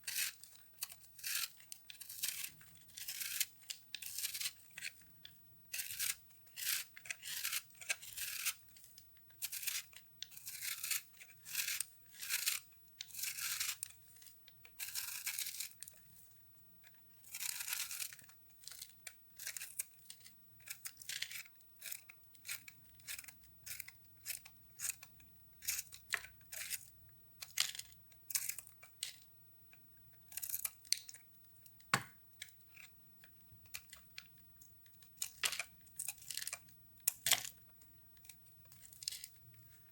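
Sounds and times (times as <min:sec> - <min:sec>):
soap scraping and crunching: 0:00.0 - 0:29.3, 0:31.8 - 0:39.9.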